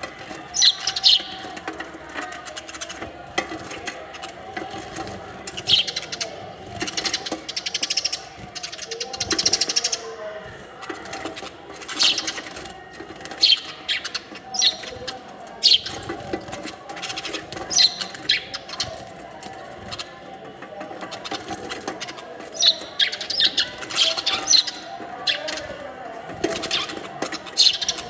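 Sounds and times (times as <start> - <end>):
bird rapid rattling: 0.0 - 28.0
small birds chirping: 0.0 - 28.0.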